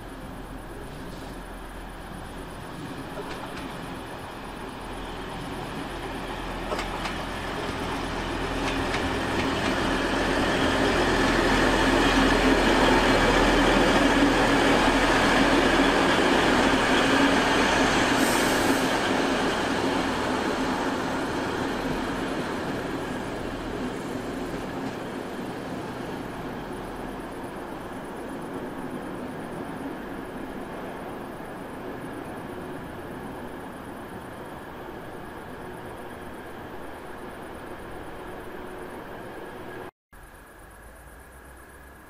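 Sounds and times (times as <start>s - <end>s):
diesel train engines droning: 0.0s - 41.7s
train wheels on rails: 0.1s - 39.9s.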